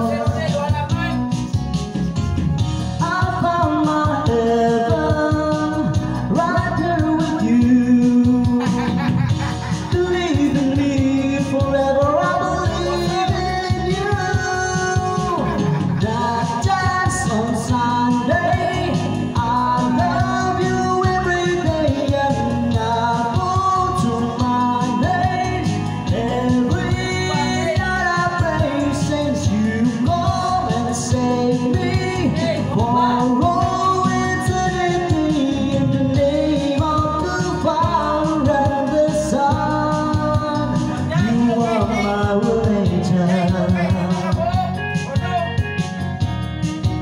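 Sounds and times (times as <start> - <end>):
man singing into microphone: 0.0 - 1.4, 2.8 - 45.7
instrumental backing track: 0.0 - 47.0.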